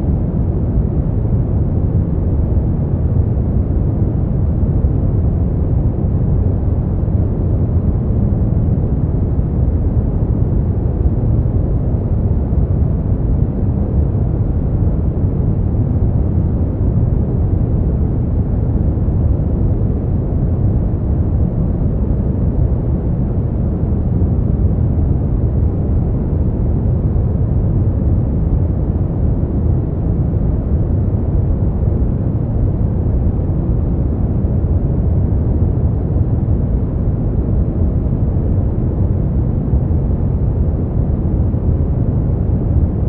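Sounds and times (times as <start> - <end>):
deep muffled steady noise: 0.0 - 43.0.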